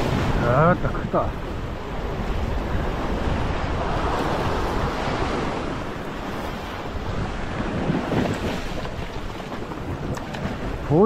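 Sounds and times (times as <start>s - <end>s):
wind buffeting microphone: 0.0s - 11.0s
sea swell washing against rocks: 1.1s - 11.0s.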